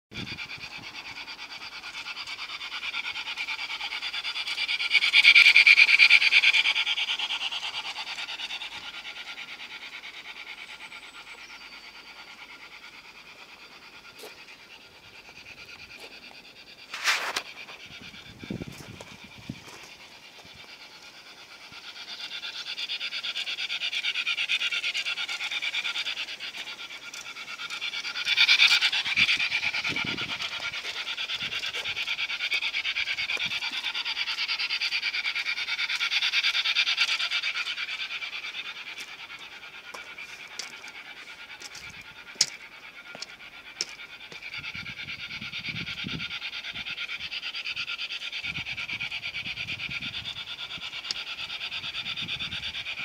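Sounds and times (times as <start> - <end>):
model train hissing whir: 0.2 - 53.0.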